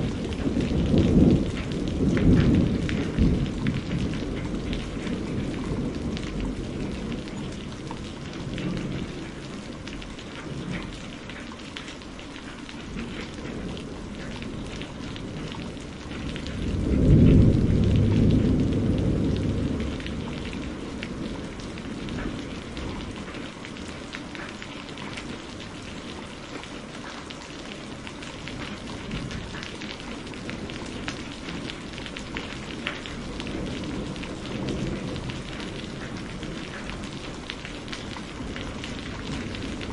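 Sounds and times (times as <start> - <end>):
rolling thunder: 0.0 - 11.0, 12.9 - 24.0, 27.9 - 39.9
steady rain: 0.0 - 39.9.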